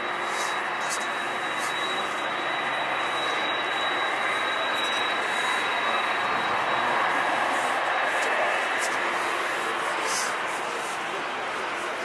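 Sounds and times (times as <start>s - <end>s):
high whine: 0.0s - 10.0s
jet engines running: 0.0s - 12.0s.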